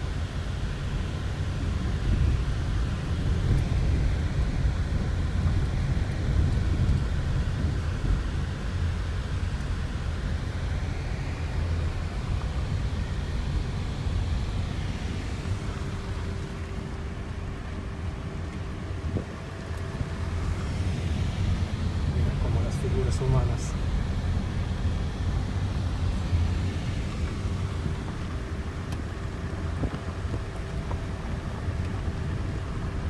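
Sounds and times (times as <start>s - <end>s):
tyres and engine rumble on gravel: 0.0s - 33.0s.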